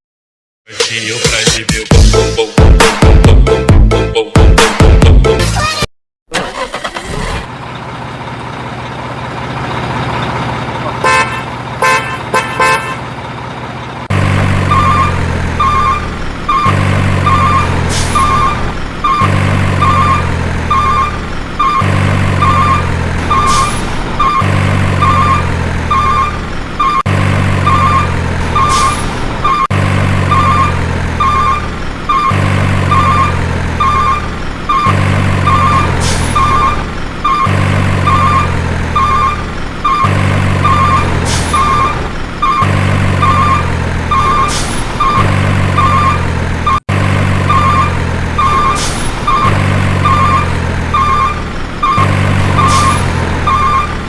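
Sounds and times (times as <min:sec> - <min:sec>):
synthetic engine hum: 0:06.3 - 0:54.0.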